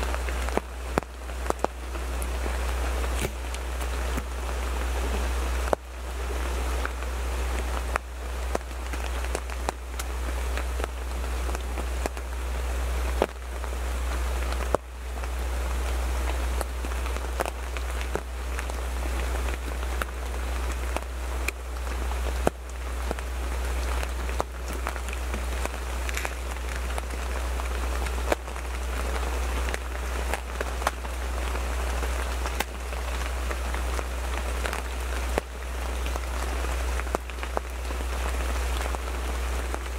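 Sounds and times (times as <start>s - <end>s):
rain pattering on a blind: 0.0s - 39.9s
steady low rumble: 0.0s - 39.9s.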